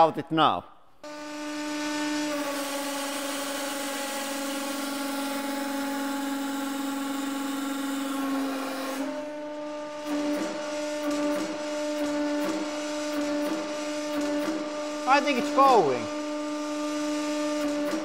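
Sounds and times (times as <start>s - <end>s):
hydraulic press hum: 1.0s - 18.0s.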